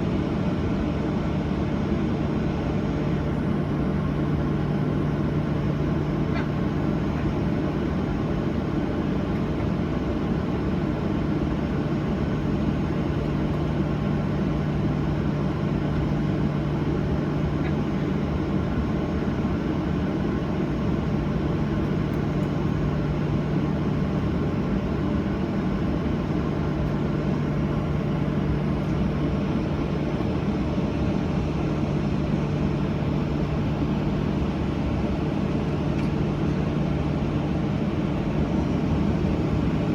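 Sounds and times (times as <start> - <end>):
airliner cabin hum: 0.0 - 39.9.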